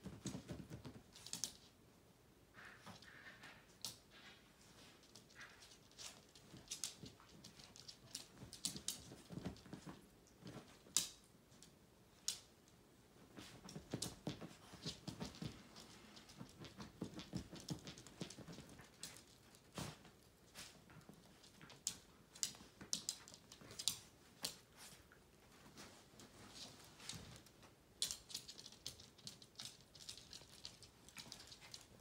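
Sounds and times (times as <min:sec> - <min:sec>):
soft rustling of pet bed: 0:00.0 - 0:01.9, 0:02.6 - 0:32.0.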